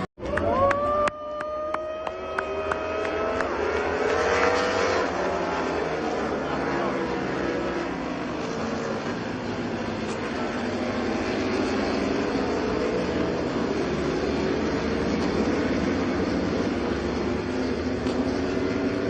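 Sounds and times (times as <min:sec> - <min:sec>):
motorcycle engines running: 0:00.2 - 0:19.0.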